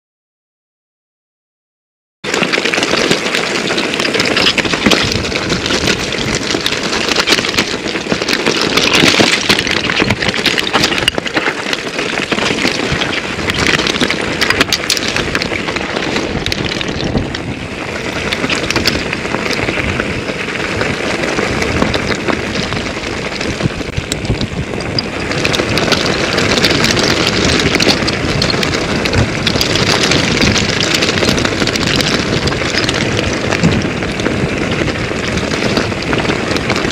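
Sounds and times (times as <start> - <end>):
bike rattling and knocking: 2.2 - 36.9
tyre rumble on rocky trail: 2.3 - 36.9
wind buffeting microphone: 2.6 - 36.9.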